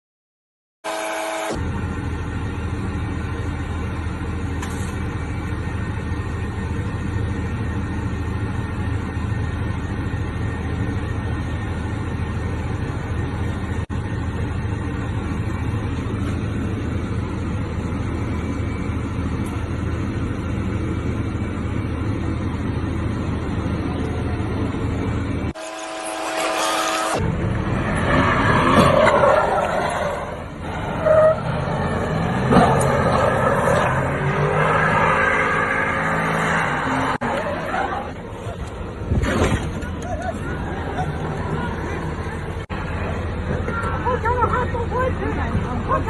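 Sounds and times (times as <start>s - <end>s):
car engine running at high revs: 0.8s - 46.0s.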